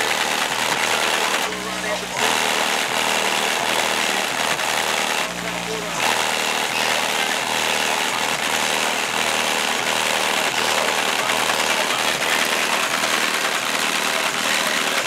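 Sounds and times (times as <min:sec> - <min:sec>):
car body rattling buzz: 0:00.0 - 0:15.0.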